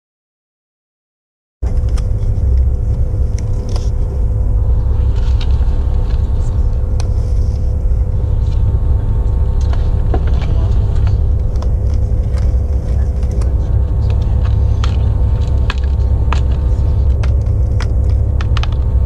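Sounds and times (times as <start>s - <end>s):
train cabin rumble and hum: 1.6s - 19.0s.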